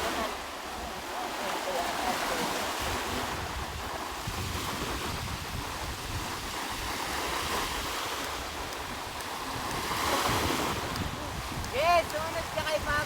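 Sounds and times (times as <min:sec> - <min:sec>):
sea water washing: 0:00.0 - 0:13.0
wind buffeting microphone: 0:02.2 - 0:13.0.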